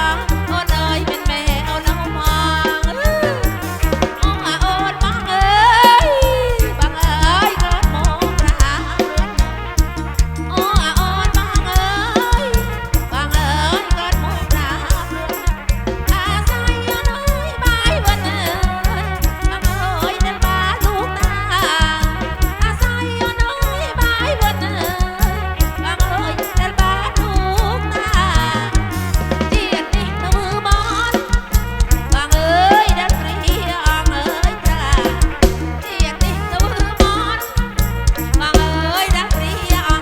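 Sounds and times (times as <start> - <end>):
folk band over loud speakers: 0.0 - 40.0
heavy steady drum beat: 0.0 - 40.0.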